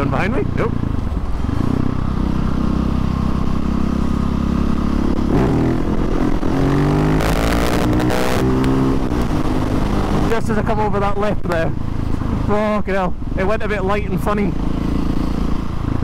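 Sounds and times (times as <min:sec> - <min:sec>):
motorcycle engine revving: 0:00.0 - 0:12.8, 0:13.4 - 0:16.0.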